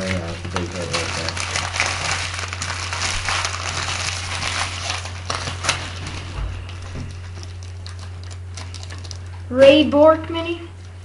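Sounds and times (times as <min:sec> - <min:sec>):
wrappers crinkling and rustling: 0:00.0 - 0:09.5
steady low hum: 0:00.0 - 0:11.0.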